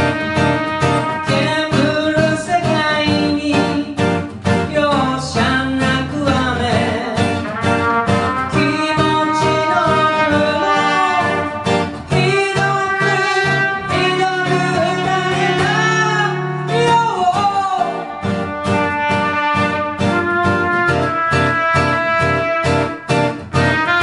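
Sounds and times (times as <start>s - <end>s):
guitar chords: 0.0s - 24.0s
sliding lead melody: 0.0s - 24.0s.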